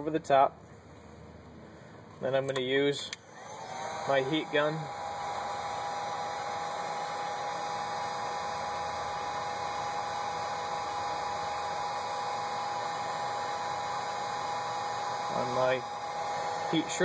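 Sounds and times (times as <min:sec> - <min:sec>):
heat gun blowing air: 0:03.2 - 0:17.0.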